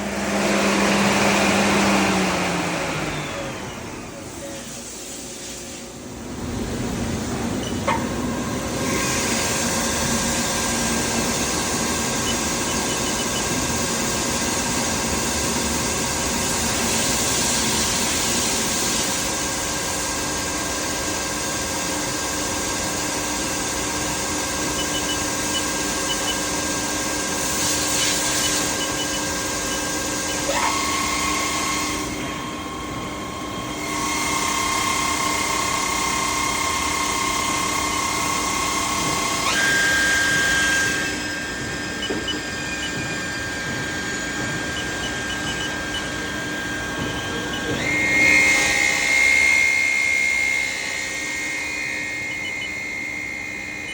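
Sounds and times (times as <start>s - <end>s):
lathe whining: 0.0s - 53.9s.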